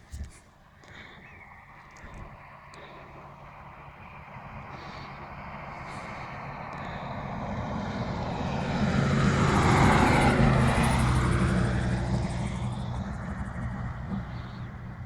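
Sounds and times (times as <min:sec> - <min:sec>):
low engine drone: 0:00.0 - 0:15.0
engine passing by: 0:01.5 - 0:15.0.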